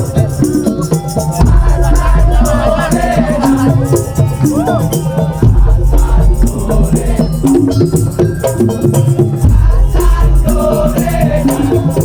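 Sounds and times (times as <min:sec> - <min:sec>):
bamboo slit drums: 0:00.0 - 0:12.0
heavy low beat: 0:00.0 - 0:12.0
rattling percussion: 0:00.0 - 0:12.0.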